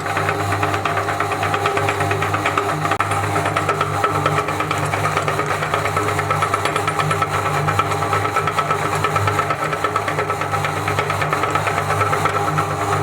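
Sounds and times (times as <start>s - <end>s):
electric meat grinder running: 0.0s - 13.0s.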